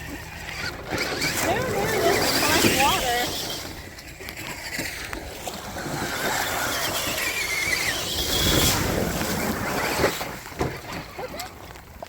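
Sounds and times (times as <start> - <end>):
electric motor whining: 0.0 - 10.0
water splashing: 0.0 - 11.6.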